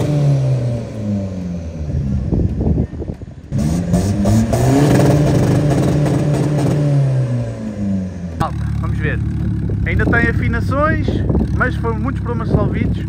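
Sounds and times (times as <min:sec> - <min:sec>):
diesel engine revving under load: 0:00.0 - 0:13.0.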